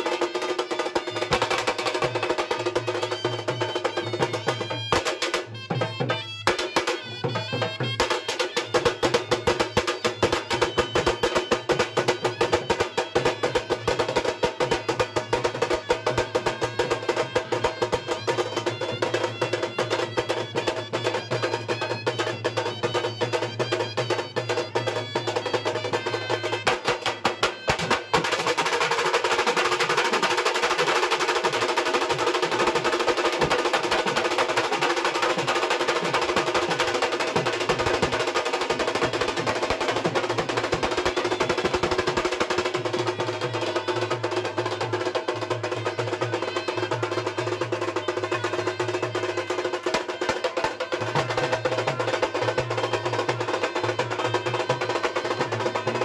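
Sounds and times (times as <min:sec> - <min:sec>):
wavering wind instrument melody: 0:00.0 - 0:30.8, 0:31.4 - 0:56.0
barrel drums beating: 0:00.0 - 0:56.0.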